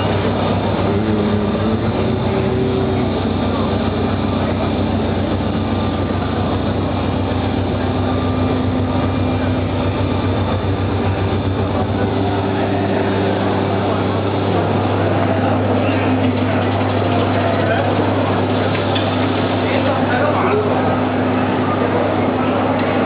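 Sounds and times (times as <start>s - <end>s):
machine humming and whirring: 0.0s - 23.0s.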